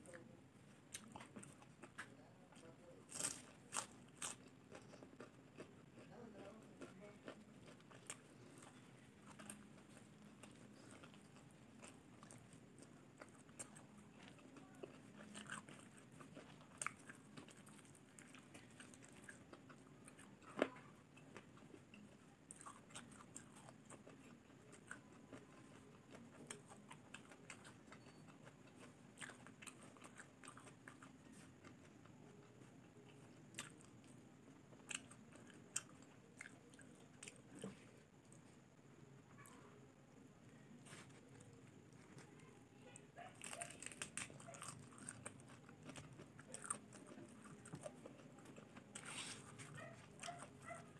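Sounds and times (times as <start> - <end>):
close chewing: 0.9 - 38.6, 40.8 - 50.9.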